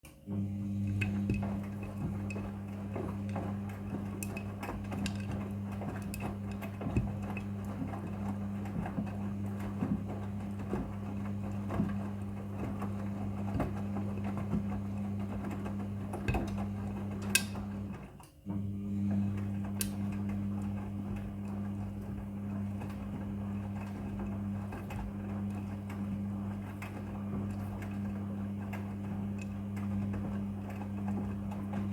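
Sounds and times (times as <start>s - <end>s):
washing machine motor hum: 0.0s - 31.9s
tumbling load clicks and knocks: 0.8s - 18.0s, 19.2s - 31.9s.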